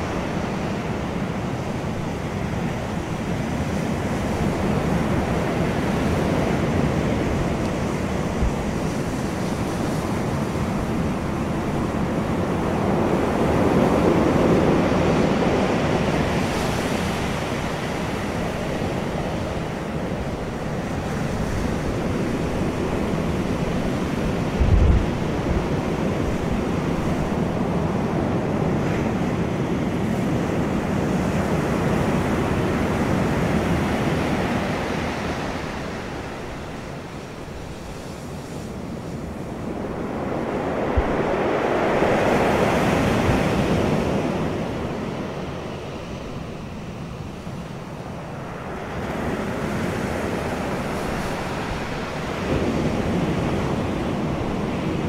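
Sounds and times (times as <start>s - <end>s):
waves on a pebble beach: 0.0s - 55.0s.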